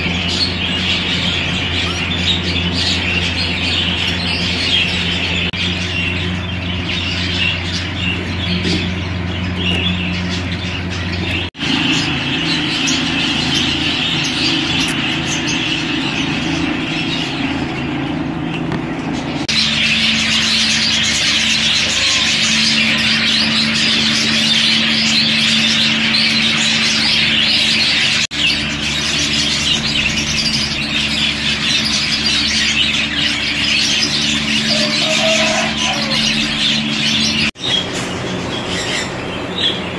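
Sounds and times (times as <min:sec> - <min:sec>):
budgerigars chattering and chirping: 0:00.0 - 0:39.9
steady low hum: 0:00.0 - 0:39.9.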